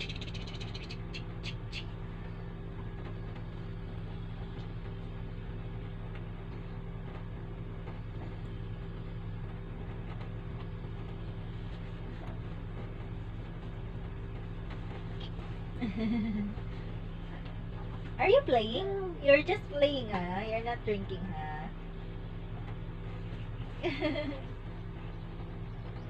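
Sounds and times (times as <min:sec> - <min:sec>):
low motor hum: 0:00.0 - 0:26.0.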